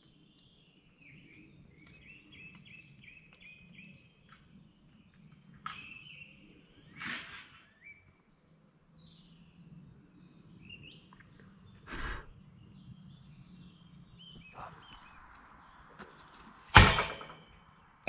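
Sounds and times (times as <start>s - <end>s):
birds singing faintly: 0.0s - 18.0s.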